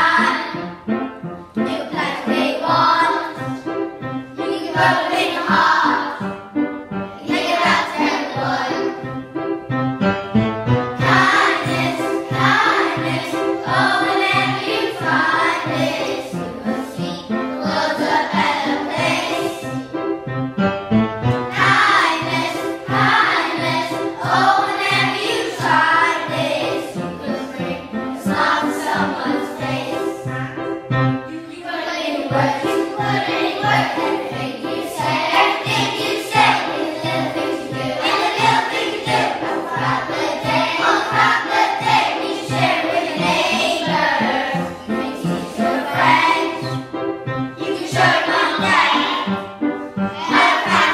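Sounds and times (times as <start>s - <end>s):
children singing in unison: 0.0s - 0.7s, 1.6s - 6.3s, 7.2s - 9.1s, 11.0s - 19.9s, 21.5s - 30.7s, 31.3s - 47.0s, 47.6s - 49.4s, 50.2s - 50.9s
piano: 0.0s - 50.9s.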